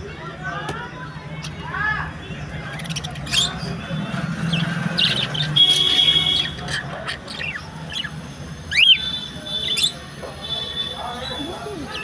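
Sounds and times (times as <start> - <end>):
parrots and small birds chirping: 1.0 - 12.0.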